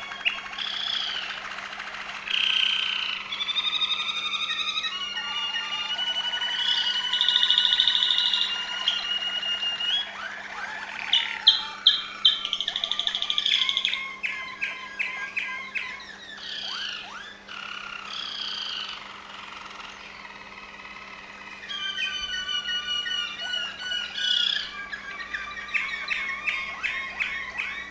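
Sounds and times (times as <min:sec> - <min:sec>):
canary singing: 0:00.0 - 0:27.9.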